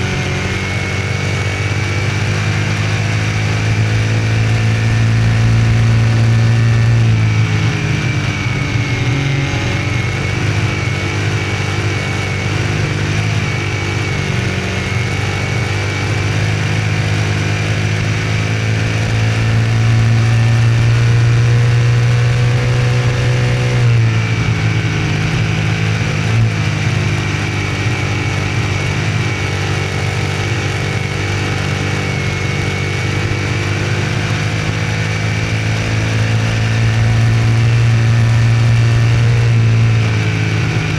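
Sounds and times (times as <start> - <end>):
racing car engine: 0.0 - 40.9.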